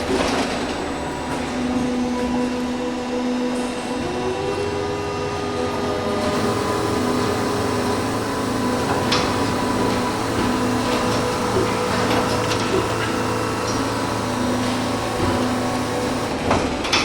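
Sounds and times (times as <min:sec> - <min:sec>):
injection molding machine hum: 0:00.0 - 0:17.0.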